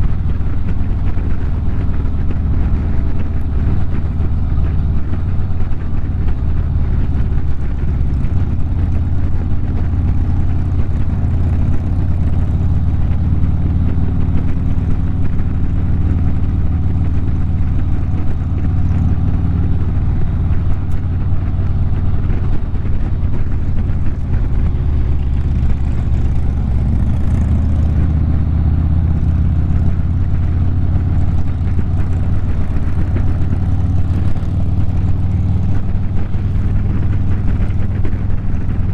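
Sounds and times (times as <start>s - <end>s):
motorcycle engine drone: 0.0s - 38.9s.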